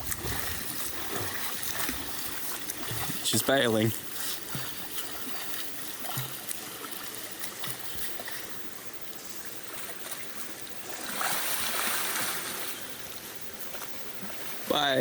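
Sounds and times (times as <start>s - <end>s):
creek running: 0.0s - 15.0s.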